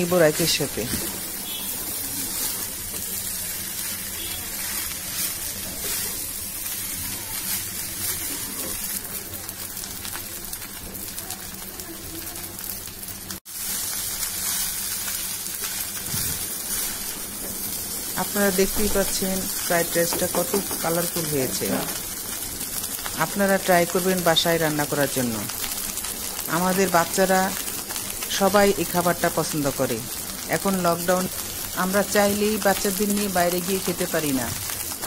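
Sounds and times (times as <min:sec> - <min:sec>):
rice sizzling in a pan: 0:00.0 - 0:35.0.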